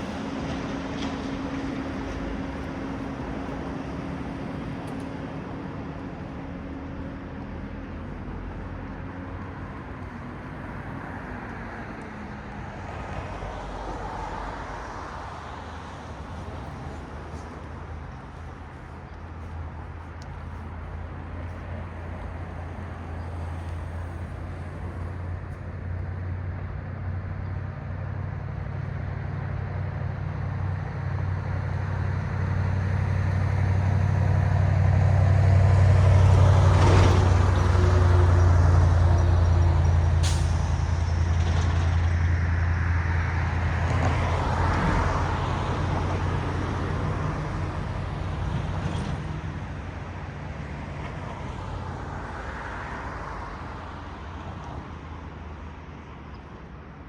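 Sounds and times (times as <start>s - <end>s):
heavy vehicle engine rumble: 0.0s - 57.0s
tyre noise of passing vehicles: 0.0s - 57.0s.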